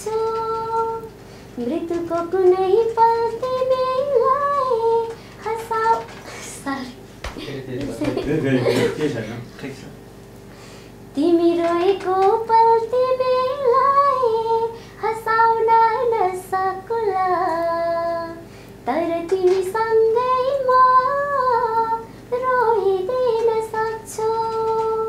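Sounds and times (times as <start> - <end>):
woman singing unaccompanied: 0.0 - 7.0, 11.1 - 25.0.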